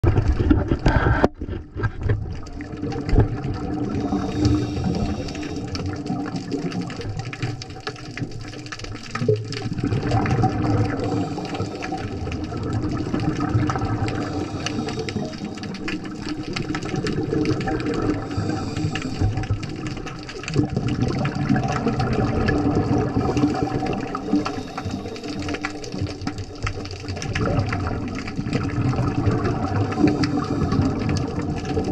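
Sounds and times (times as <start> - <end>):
fine crackling clicks underwater: 0.0 - 31.9
underwater rush of water: 0.0 - 31.9.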